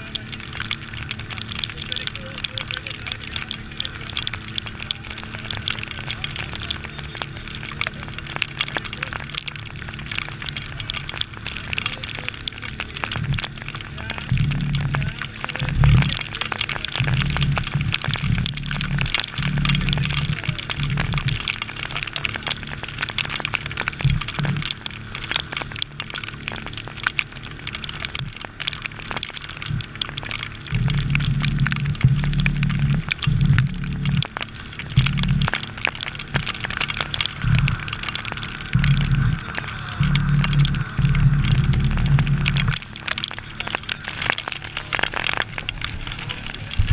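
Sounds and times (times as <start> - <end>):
low rumble: 0.0 - 46.9
rain clicking on camera housing: 0.0 - 46.9.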